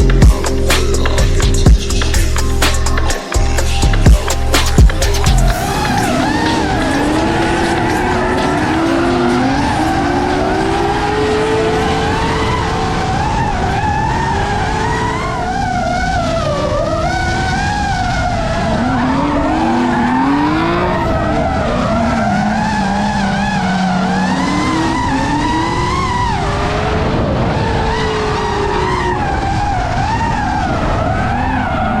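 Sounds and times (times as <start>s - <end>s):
car engines revving high: 0.0s - 32.0s
tyres skidding: 0.1s - 16.2s, 17.1s - 32.0s.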